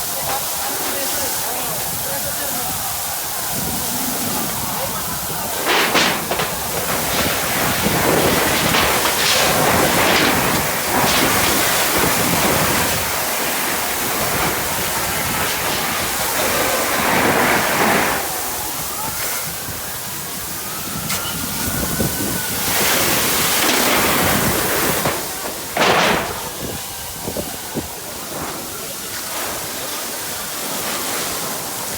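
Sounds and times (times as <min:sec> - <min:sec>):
fire hose spraying water: 0:00.0 - 0:31.9.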